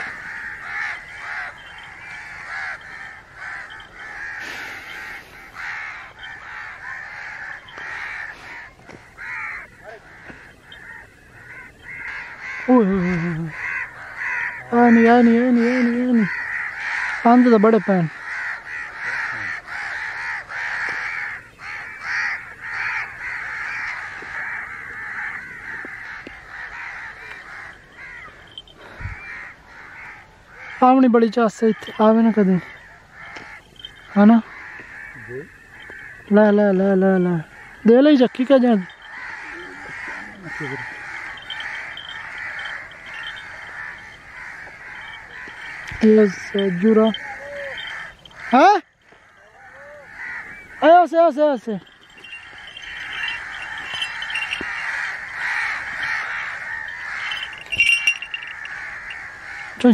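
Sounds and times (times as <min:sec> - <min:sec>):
crows cawing: 0:00.0 - 0:59.9.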